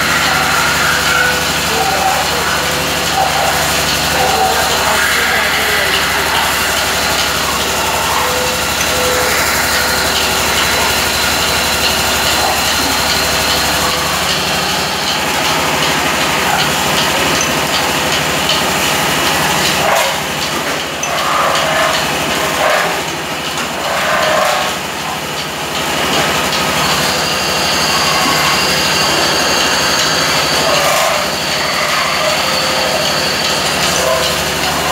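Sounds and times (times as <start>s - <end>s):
tool rubbing on metal sheet: 0.0s - 17.7s, 19.3s - 34.9s
lathe whining: 0.0s - 34.9s.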